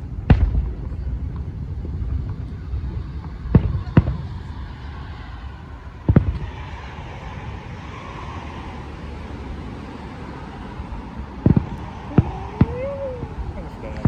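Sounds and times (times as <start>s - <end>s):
firework bursting with a boom: 0.0s - 14.0s
low rumble of fireworks: 0.0s - 14.0s.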